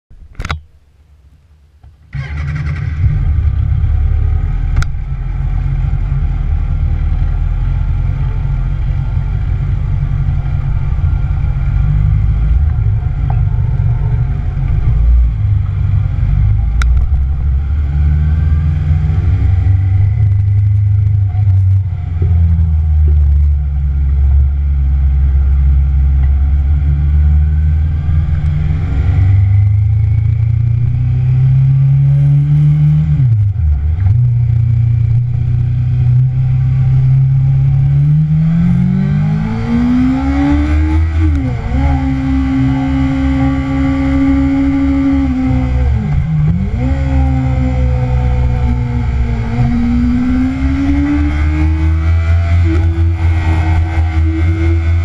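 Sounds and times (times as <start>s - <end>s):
motorcycle engine starting and running: 1.8s - 55.0s.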